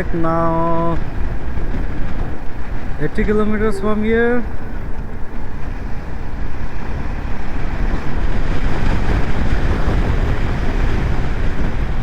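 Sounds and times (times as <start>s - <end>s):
motorcycle riding noise: 0.0s - 12.0s
wind rushing over microphone: 0.0s - 12.0s.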